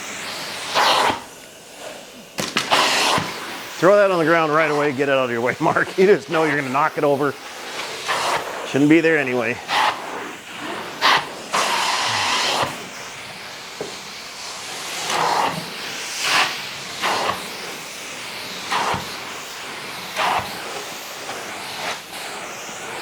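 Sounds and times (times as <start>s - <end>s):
carpet extraction suction hiss: 0.0s - 23.0s
spray and suction surges: 0.0s - 23.0s.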